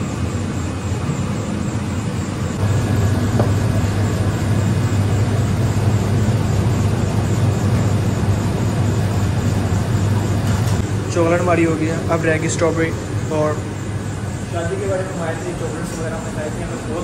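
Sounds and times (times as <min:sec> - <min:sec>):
ice cream machine humming: 0:00.0 - 0:17.0.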